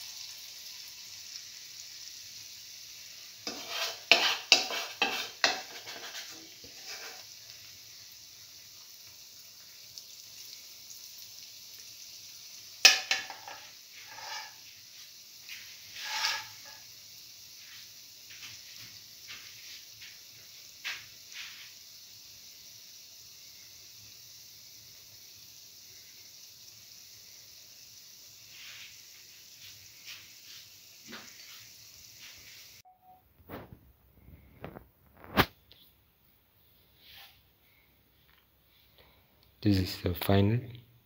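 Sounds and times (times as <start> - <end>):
batter sizzling in hot oil: 0.0 - 36.0.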